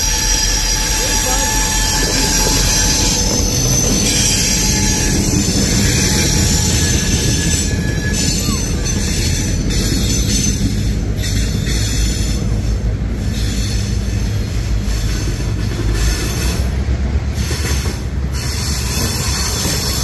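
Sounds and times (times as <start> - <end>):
high wheel squeal: 0.0 - 16.6, 17.3 - 20.0
train wheels rumbling on rails: 0.0 - 20.0.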